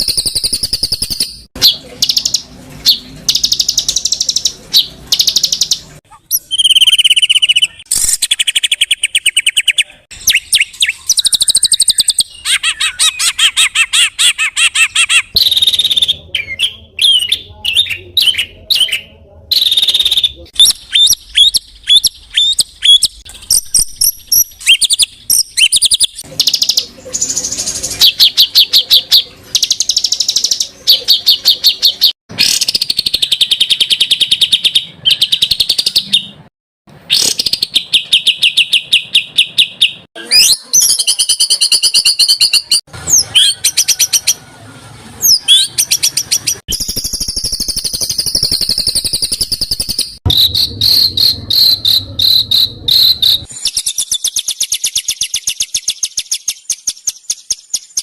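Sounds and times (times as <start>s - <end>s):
shrill continuous bird trill: 0.0s - 36.4s, 37.1s - 44.4s, 45.2s - 58.0s
songbirds singing: 0.0s - 36.4s, 45.2s - 58.0s.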